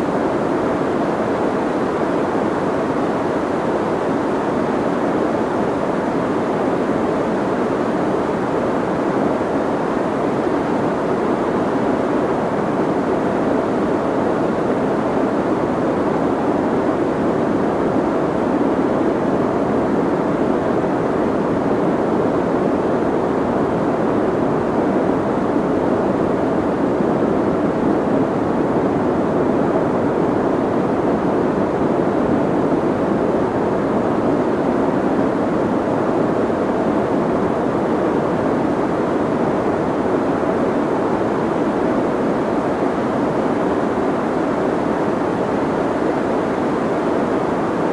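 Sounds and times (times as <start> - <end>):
soft muffled white noise: 0.0 - 47.9.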